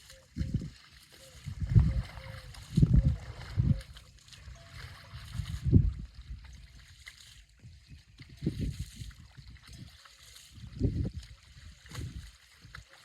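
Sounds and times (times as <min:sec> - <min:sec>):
water buffaloes splashing in water: 0:00.0 - 0:13.0.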